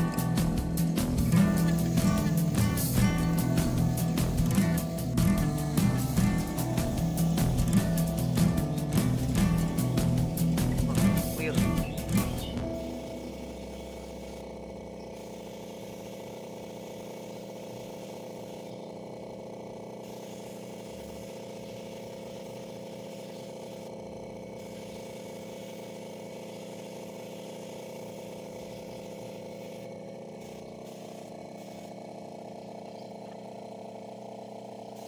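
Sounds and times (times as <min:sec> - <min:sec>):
spray gun hissing: 0:00.0 - 0:32.5
steady hum: 0:00.0 - 0:35.0.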